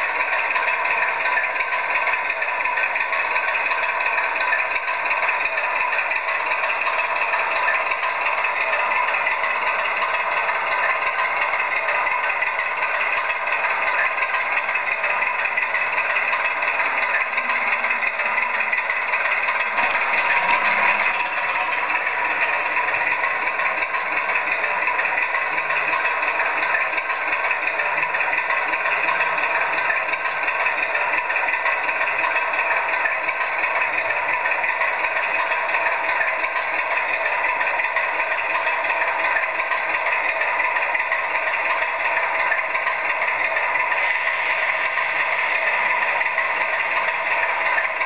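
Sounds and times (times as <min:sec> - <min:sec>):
diesel engine through small speaker: 0:00.0 - 0:48.0.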